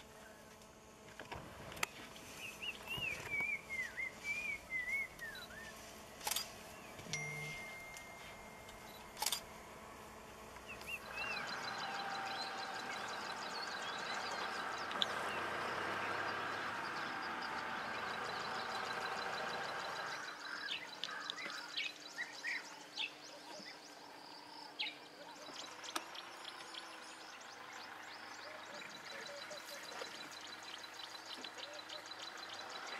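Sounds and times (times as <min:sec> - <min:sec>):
birds chirping: 0:01.8 - 0:32.9.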